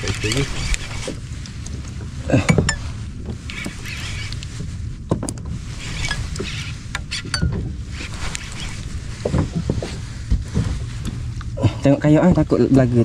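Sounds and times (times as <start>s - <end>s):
water lapping against kayak hull: 0.0s - 12.8s
low rumble: 0.0s - 13.0s.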